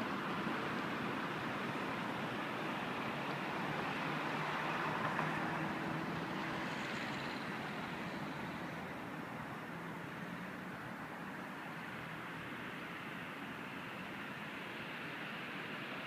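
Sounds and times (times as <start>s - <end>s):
hiss of outdoor traffic: 0.0s - 16.0s.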